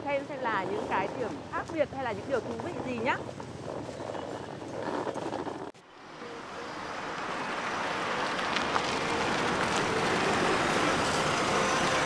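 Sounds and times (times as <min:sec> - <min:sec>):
vehicle tyres and engine: 0:00.0 - 0:12.0.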